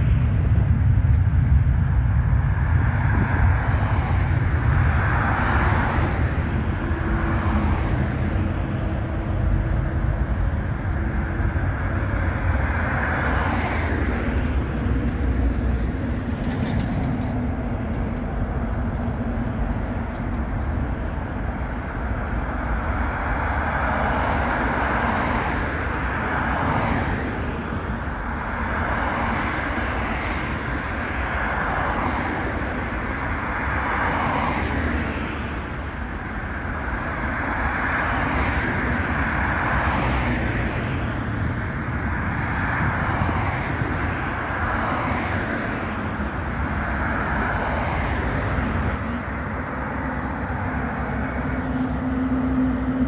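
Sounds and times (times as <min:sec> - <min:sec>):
low traffic rumble: 0:00.0 - 0:53.0
vehicles passing close by: 0:00.0 - 0:53.0.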